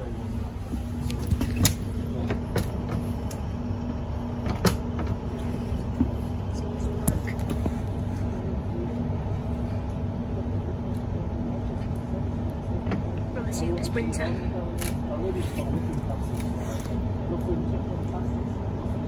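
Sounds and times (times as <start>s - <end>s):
low hum: 0.0s - 19.0s
train diesel engine drone: 0.0s - 19.0s
train wheel rumble: 0.0s - 19.0s.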